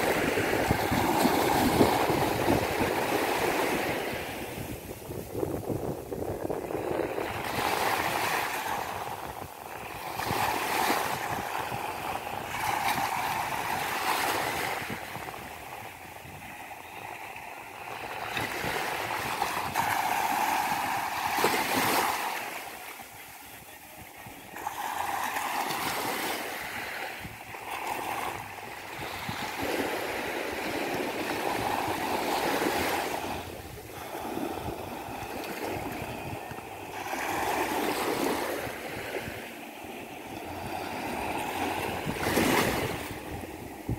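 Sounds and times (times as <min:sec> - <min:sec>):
sea waves washing: 0:00.0 - 0:43.9.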